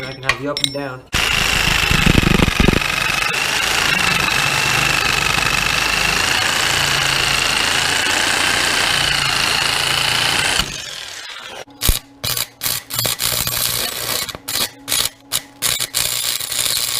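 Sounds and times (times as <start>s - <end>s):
jigsaw cutting steel: 1.2s - 16.9s.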